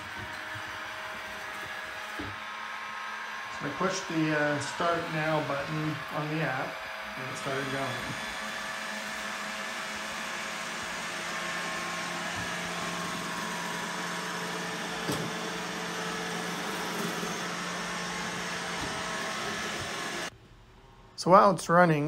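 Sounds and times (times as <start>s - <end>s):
robot vacuum whirring: 0.0s - 20.3s.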